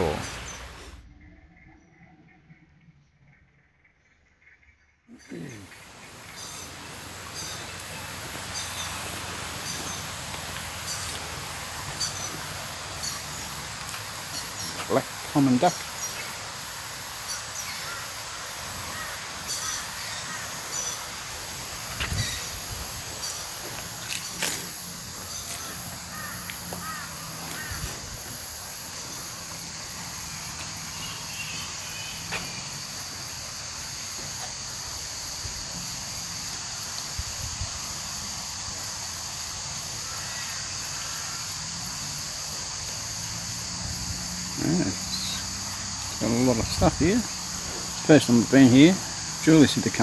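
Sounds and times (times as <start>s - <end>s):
birds calling: 0.0s - 1.0s, 5.2s - 50.0s
high insect drone: 0.0s - 1.0s, 5.1s - 50.0s.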